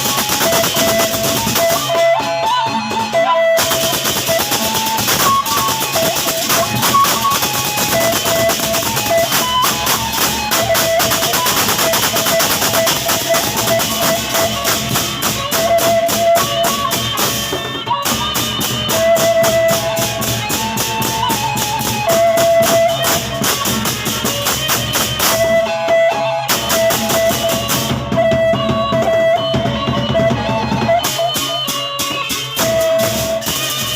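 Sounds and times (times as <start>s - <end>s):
drums and cymbals playing fast: 0.0s - 33.9s
high held melody line: 0.0s - 33.9s.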